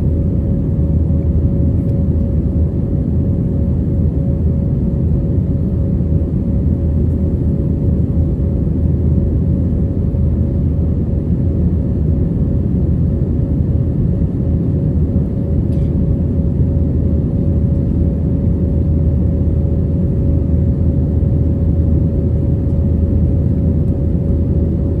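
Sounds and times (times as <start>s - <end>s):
constant cabin hum: 0.0s - 25.0s
jet engines rumbling in cabin: 0.0s - 25.0s.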